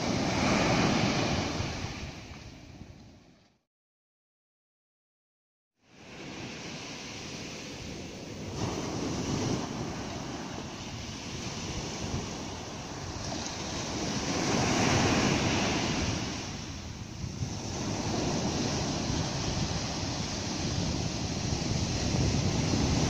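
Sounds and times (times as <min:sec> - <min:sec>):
sea surf washing on beach: 0:00.0 - 0:03.2, 0:05.8 - 0:23.0.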